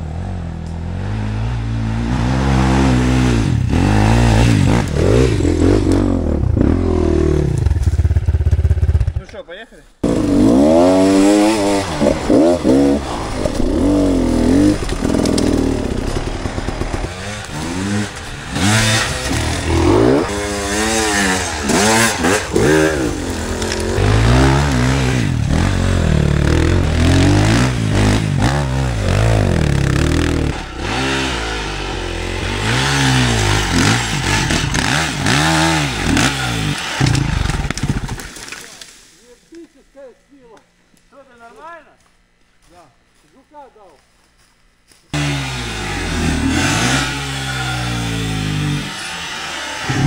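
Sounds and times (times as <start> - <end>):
dirt bike engine revving: 0.0 - 9.3, 10.0 - 38.1, 45.1 - 50.0.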